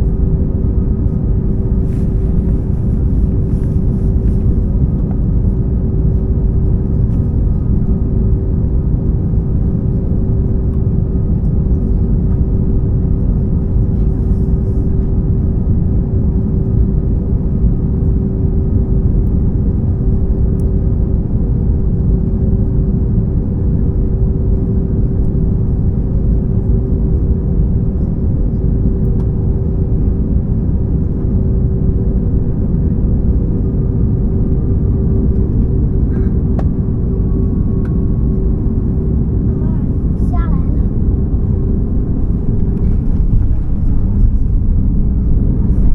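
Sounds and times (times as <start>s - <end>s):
airliner cabin engine rumble: 0.0s - 45.9s
constant droning hum: 0.0s - 45.9s.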